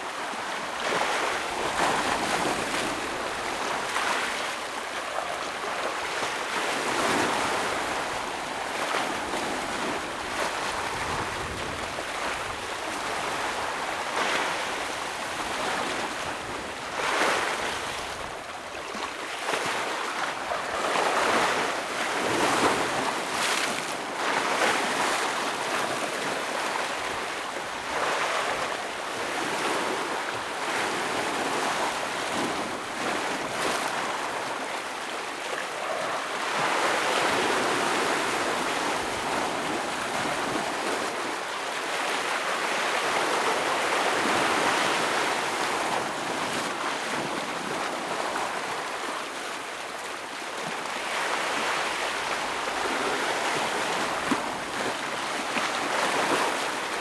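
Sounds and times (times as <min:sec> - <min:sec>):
ocean waves breaking over rocks: 0:00.1 - 0:57.0.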